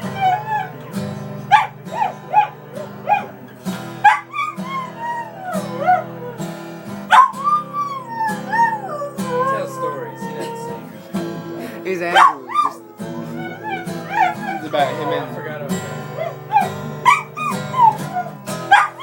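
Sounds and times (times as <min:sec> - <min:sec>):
blues guitar music: 0:00.0 - 0:19.0
dog howling: 0:00.0 - 0:19.0.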